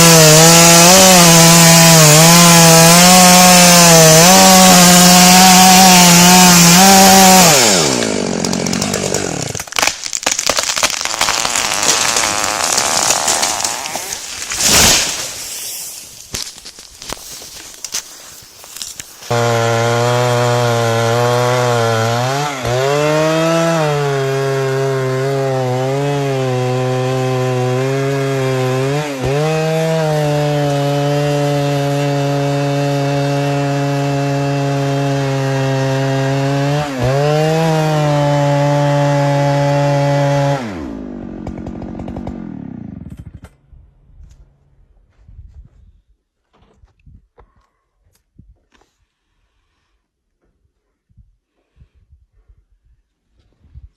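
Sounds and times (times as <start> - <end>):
chainsaw cutting wood: 0.0 - 43.6.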